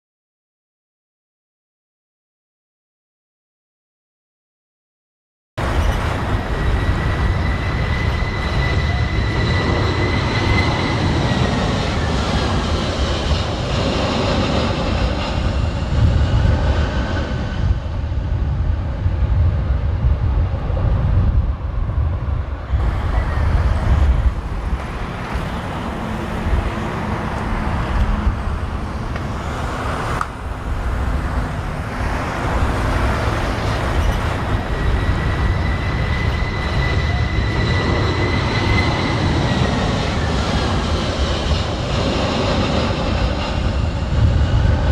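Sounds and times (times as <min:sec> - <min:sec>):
jet engine whine: 0:05.6 - 0:44.9
wind buffeting microphone: 0:05.6 - 0:44.9.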